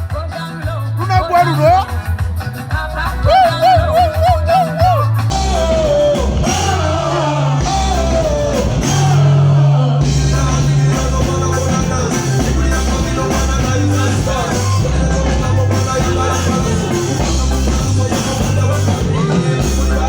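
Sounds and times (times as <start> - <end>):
live band music: 0.0 - 20.0
person singing through pa: 0.0 - 20.0
steady bass line: 0.0 - 20.0.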